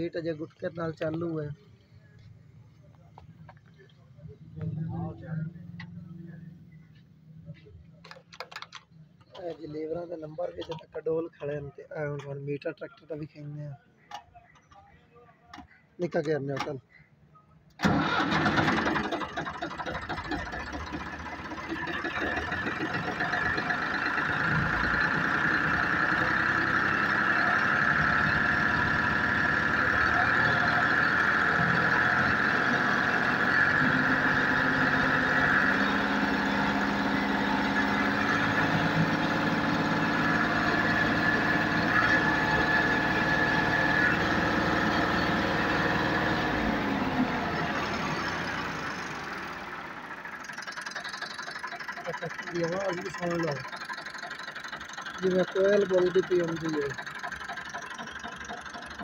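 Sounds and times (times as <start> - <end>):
tractor engine revving: 0.0 - 13.3, 17.8 - 59.0.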